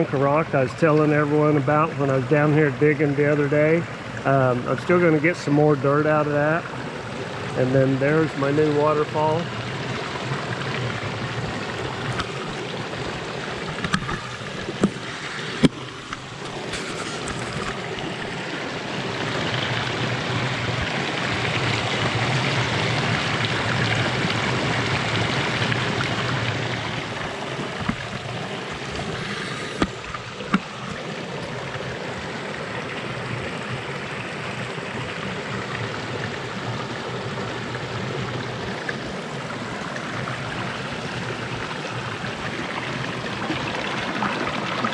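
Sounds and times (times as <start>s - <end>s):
waterfall rushing and splashing: 0.0s - 44.9s.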